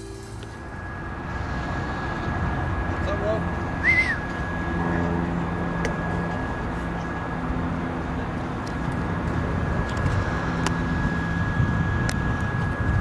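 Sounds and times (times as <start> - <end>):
high whine: 0.0 - 13.0.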